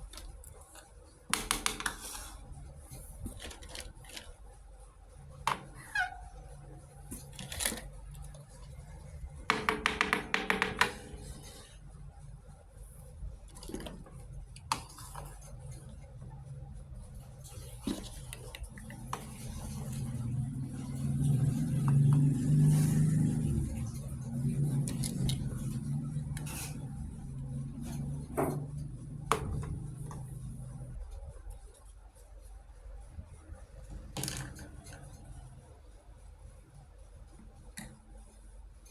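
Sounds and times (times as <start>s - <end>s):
low steady hum: 2.2s - 38.9s.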